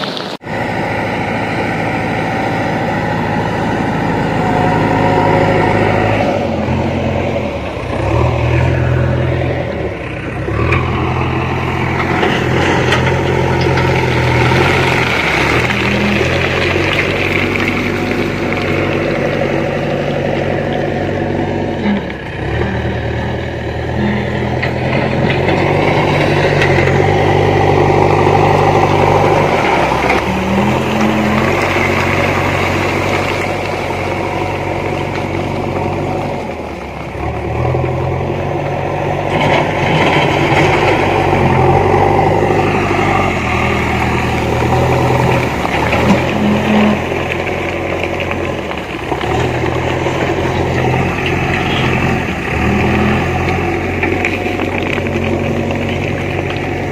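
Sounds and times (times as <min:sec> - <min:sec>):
backhoe diesel engine working: 0:00.0 - 0:56.9.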